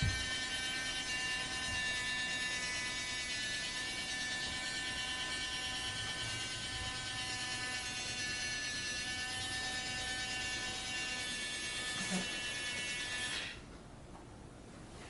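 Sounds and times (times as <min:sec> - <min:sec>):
toy crane motor whirring: 0:00.0 - 0:13.6.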